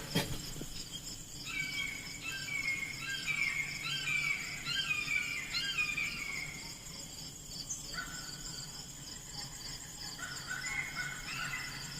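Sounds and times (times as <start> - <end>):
crickets trilling: 0.0 - 11.9.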